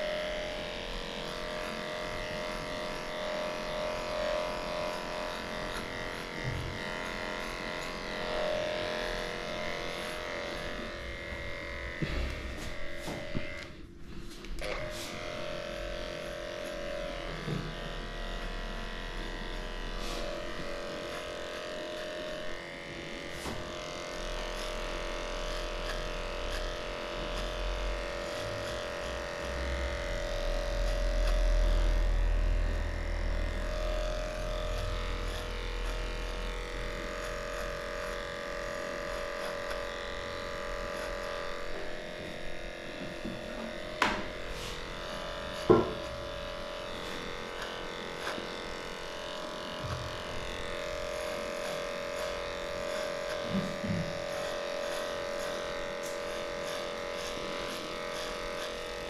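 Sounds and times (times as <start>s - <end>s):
electric dog clippers humming: 0.0s - 59.0s.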